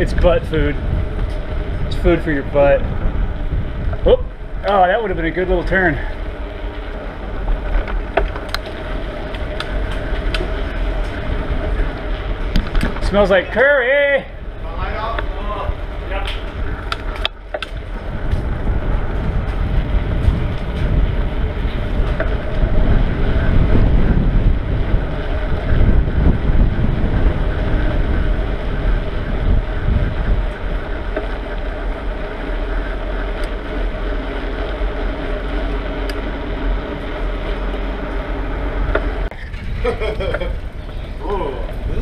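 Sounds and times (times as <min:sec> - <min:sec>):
road noise: 0:00.0 - 0:42.0
wind rumbling on microphone: 0:00.0 - 0:42.0.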